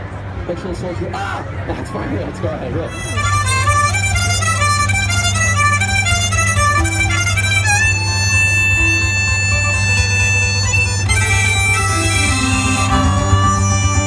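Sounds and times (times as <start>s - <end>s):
amplified busker melody: 0.0s - 14.0s
steady low drone: 1.5s - 14.0s.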